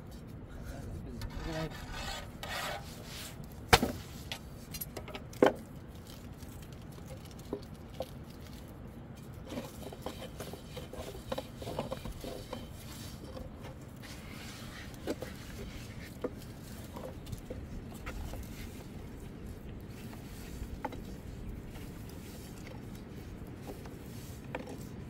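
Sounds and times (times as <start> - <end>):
scraping and rubbing: 0.0 - 4.4, 9.2 - 25.0.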